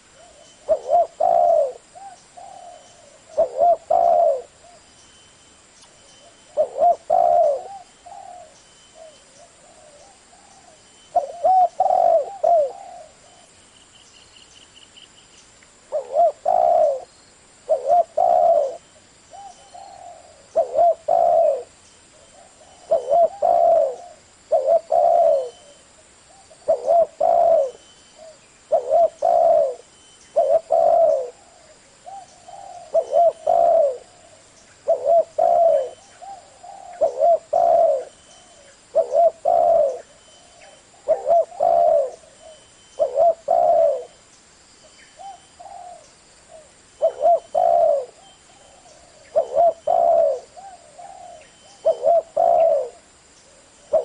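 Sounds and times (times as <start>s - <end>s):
dove cooing: 0.0s - 4.9s, 6.2s - 13.6s, 15.9s - 17.1s, 17.7s - 44.2s, 45.1s - 54.0s.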